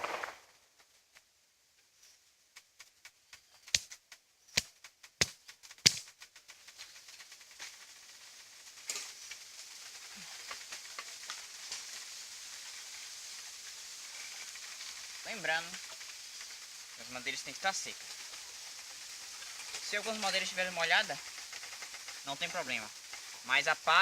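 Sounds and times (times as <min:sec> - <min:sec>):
dry straw and leaves rustling: 0:00.0 - 0:24.0
dry twigs snapping: 0:02.5 - 0:23.5.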